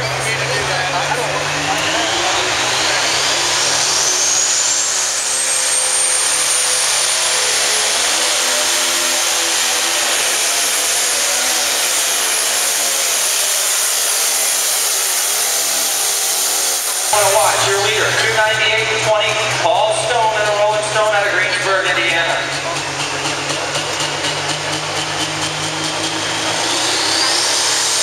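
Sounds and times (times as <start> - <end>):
diesel tractor engine running: 0.0 - 28.0
high turbo whine: 0.0 - 28.0.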